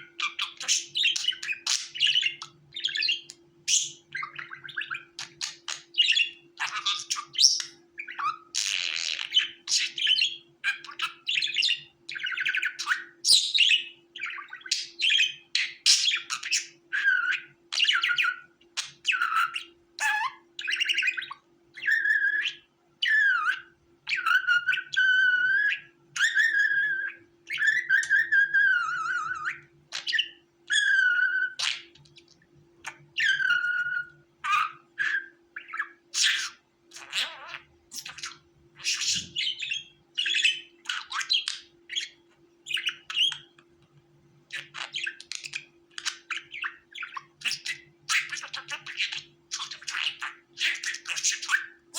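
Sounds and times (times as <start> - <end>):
budgerigars chirping: 0.0 - 43.7, 44.5 - 51.9
faint steady hum: 0.0 - 51.9.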